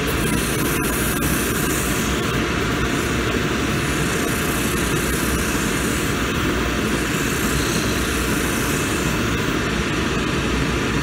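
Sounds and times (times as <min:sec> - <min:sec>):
finishing machine grinding rubber sole: 0:00.0 - 0:09.5.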